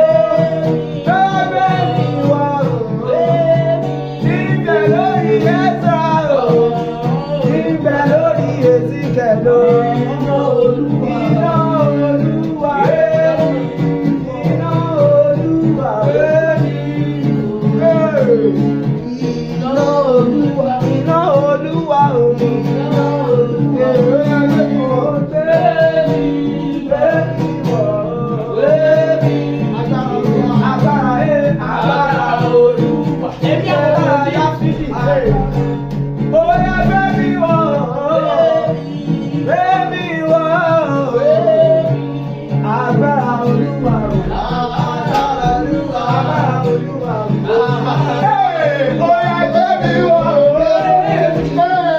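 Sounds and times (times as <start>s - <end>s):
gospel singing: 0.0s - 51.9s
guitar accompaniment: 0.0s - 51.9s.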